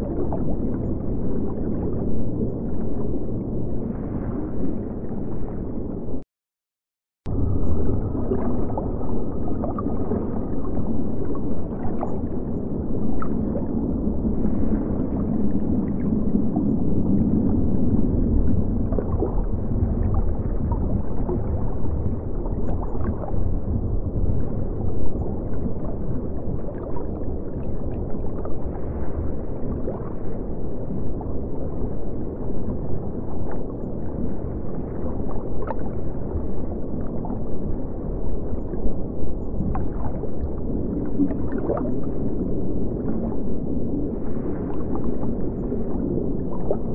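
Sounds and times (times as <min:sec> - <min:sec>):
underwater rumble: 0:00.0 - 0:06.2, 0:07.2 - 0:46.9.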